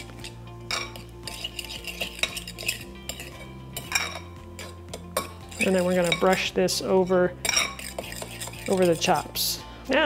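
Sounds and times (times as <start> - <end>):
metal spoon stirring in a bowl: 0.0 - 9.6.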